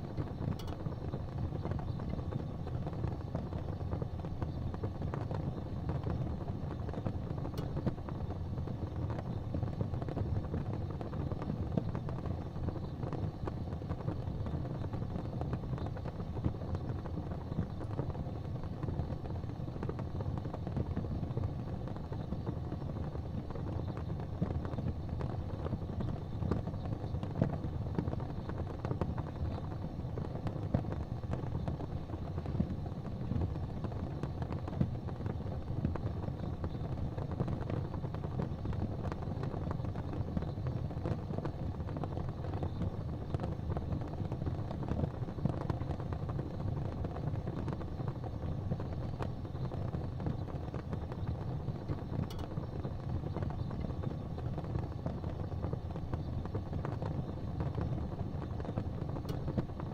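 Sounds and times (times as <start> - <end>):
fire crackles and pops: 0.0 - 59.9
fire rumbling: 0.0 - 59.9.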